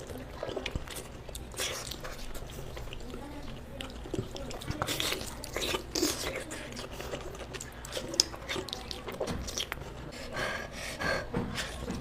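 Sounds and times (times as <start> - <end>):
chewing with wet mouth smacks: 0.0 - 10.4.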